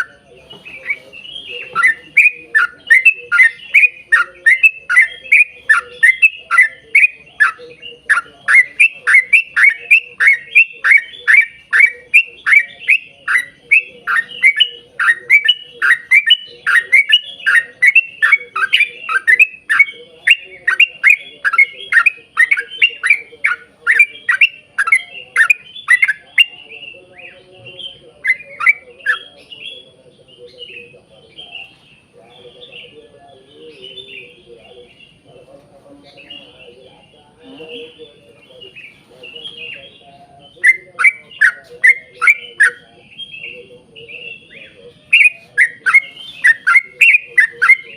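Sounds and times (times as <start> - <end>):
soft bird chatter: 0.0 - 47.9.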